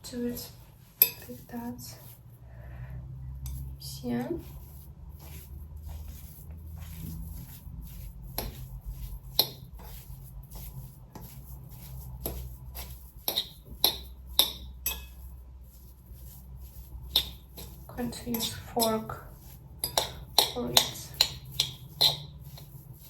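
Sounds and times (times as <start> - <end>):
metal utensil scraping a bowl: 0.2 - 2.3, 3.4 - 23.0.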